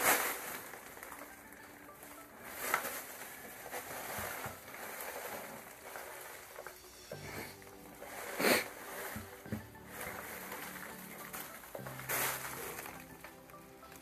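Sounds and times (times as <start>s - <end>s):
packaging rustling and scraping: 0.0s - 14.0s.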